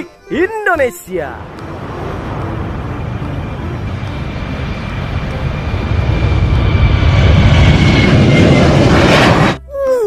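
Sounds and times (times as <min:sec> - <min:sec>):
high jet engine whine: 0:01.0 - 0:09.6
jet airliner roar: 0:01.4 - 0:09.6.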